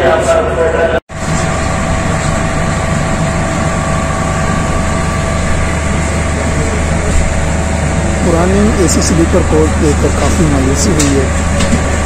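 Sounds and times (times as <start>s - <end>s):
air conditioning drone: 0.0s - 12.0s
whining tones: 1.1s - 12.0s.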